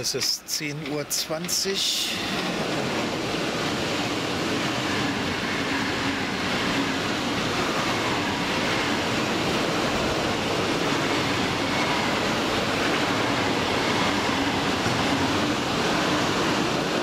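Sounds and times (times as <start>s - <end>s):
train rushing through station: 0.0s - 17.0s.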